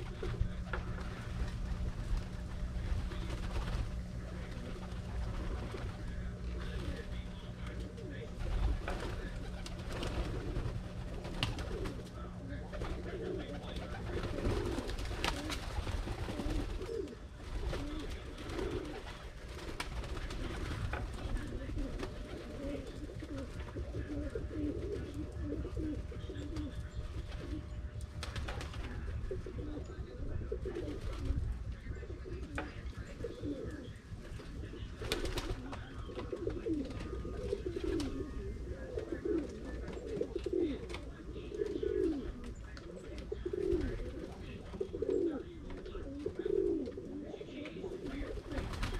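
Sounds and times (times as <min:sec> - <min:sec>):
steady low rumble: 0:00.0 - 0:46.4
pigeons cooing: 0:00.0 - 0:48.9.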